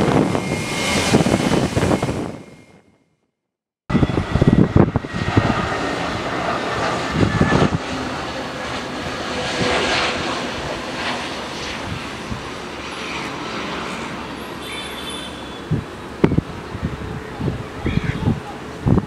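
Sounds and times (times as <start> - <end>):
wind buffeting microphone: 0.0 - 2.9, 3.9 - 12.9, 15.6 - 19.0
jet engines rushing and whining: 0.0 - 3.1, 3.9 - 19.0.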